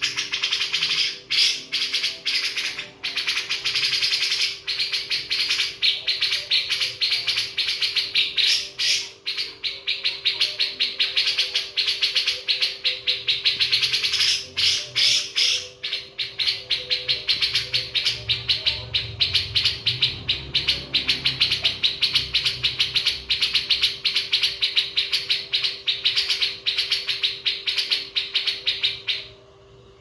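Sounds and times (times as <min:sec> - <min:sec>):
birds chirping: 0:00.0 - 0:30.0
faint steady hum: 0:00.0 - 0:30.0.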